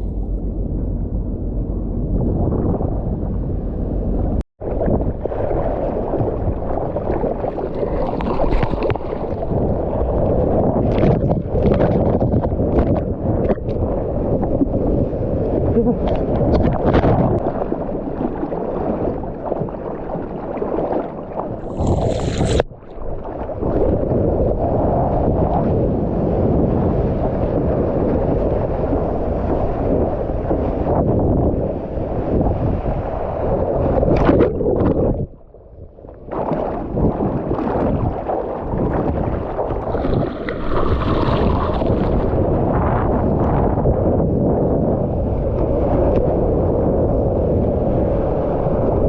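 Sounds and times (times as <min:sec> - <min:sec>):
wind buffeting microphone: 0:00.0 - 0:49.0
sea water rushing and splashing: 0:04.6 - 0:49.0.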